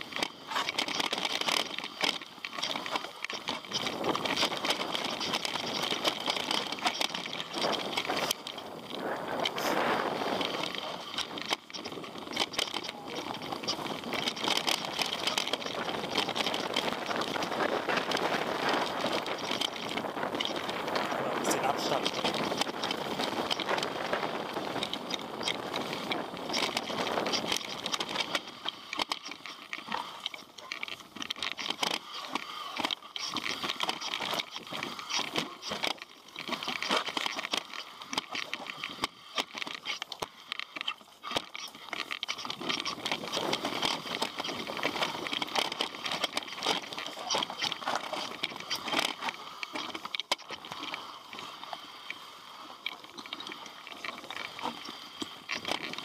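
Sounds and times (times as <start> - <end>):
bike rattling: 0.0 - 56.0.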